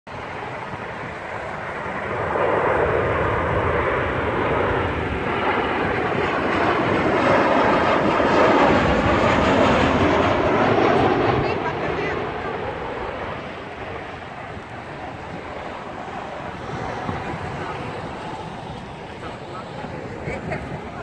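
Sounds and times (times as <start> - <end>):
jet engines roaring overhead: 0.1 - 21.0.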